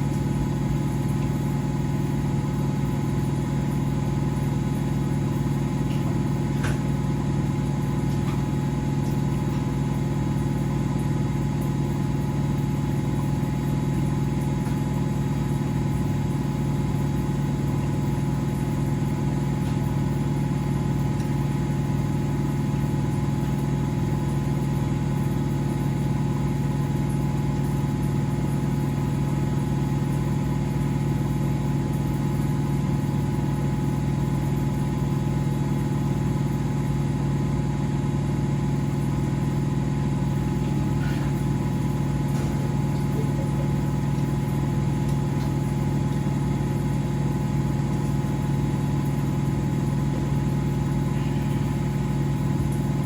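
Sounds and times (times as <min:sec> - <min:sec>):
laundry machines humming: 0:00.0 - 0:53.0.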